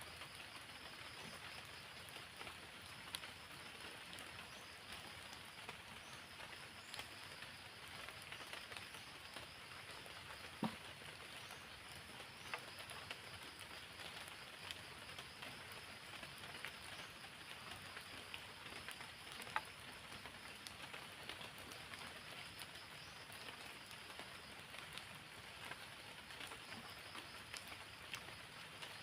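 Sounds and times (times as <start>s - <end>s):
light rain pattering: 0.0s - 29.0s.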